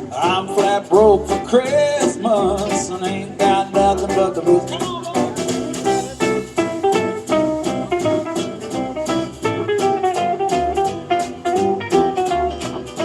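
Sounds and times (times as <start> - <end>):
bass line: 0.0 - 13.0
picked acoustic guitar: 0.0 - 13.0.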